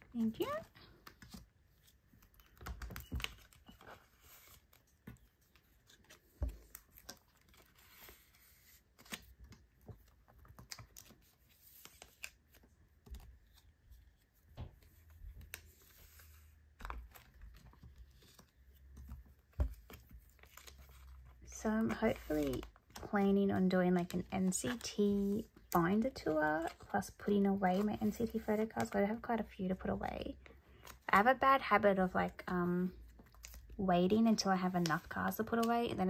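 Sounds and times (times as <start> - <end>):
plastic pages rustling and crinkling: 0.1 - 31.4, 32.3 - 36.0.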